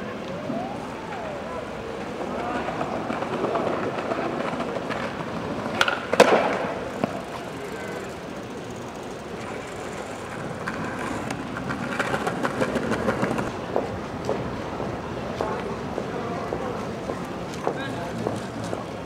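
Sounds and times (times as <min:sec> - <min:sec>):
street ambience: 0:00.0 - 0:19.0.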